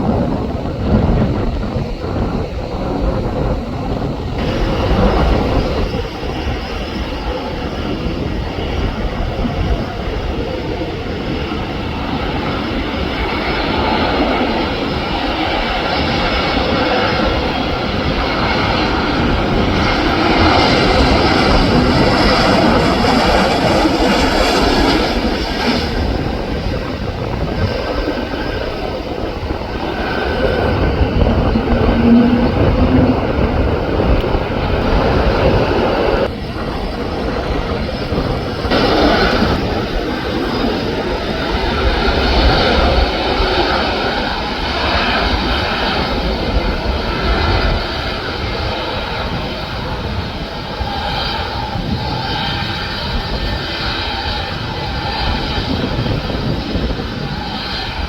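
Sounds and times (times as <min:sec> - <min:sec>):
jet engines of passing airliner: 0:00.0 - 0:58.0
wind buffeting microphone: 0:00.0 - 0:58.0.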